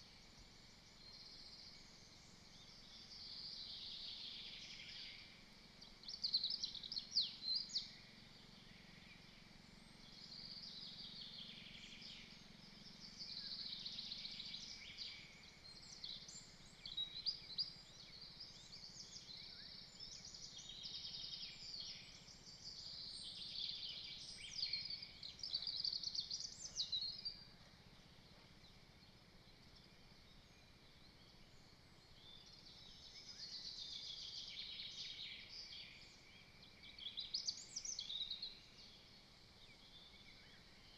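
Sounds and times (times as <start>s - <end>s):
small songbirds singing: 0.0s - 40.9s.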